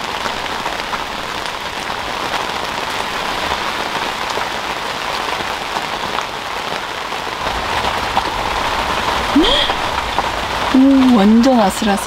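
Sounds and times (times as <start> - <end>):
rain on shelter: 0.0 - 12.0
raindrop ticks: 0.6 - 12.0.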